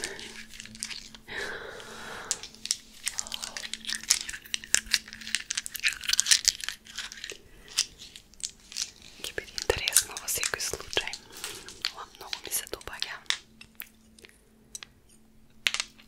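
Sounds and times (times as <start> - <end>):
packaging crinkling: 0.0 - 14.4.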